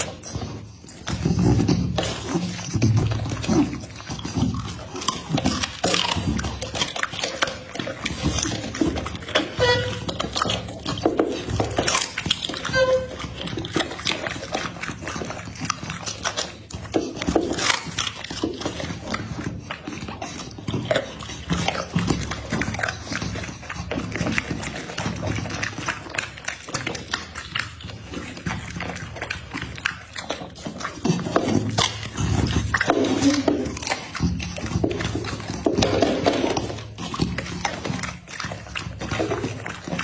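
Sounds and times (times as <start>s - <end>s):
dog sounds: 0.0s - 40.0s.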